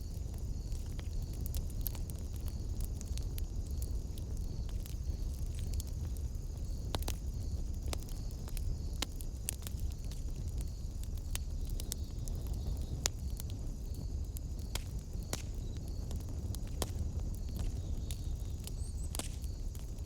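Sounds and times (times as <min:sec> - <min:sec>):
low rumble of fire: 0:00.0 - 0:20.0
wood fire crackling and popping: 0:00.0 - 0:20.0.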